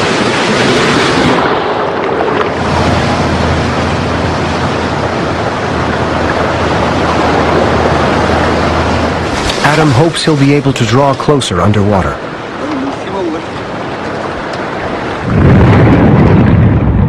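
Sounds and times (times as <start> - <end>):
waves washing: 0.0 - 17.0
wind buffeting microphone: 0.0 - 17.0.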